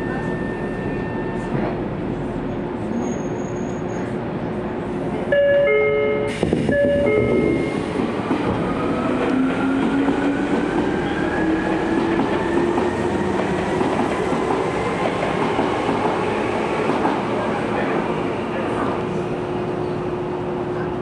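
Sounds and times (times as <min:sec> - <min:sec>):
train running noise: 0:00.0 - 0:21.0.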